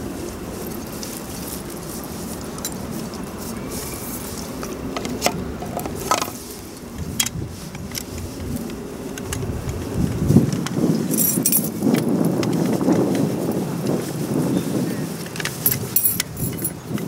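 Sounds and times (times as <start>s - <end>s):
rushing background noise: 0.0s - 17.0s.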